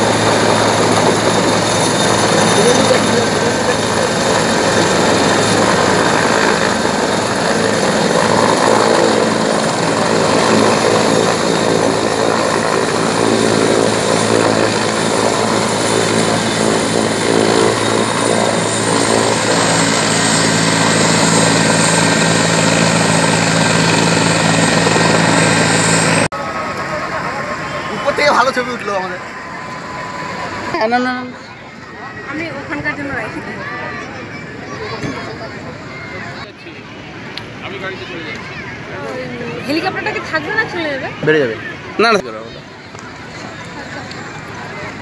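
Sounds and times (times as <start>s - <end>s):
helicopter rotor and turbine engine: 0.0s - 45.0s.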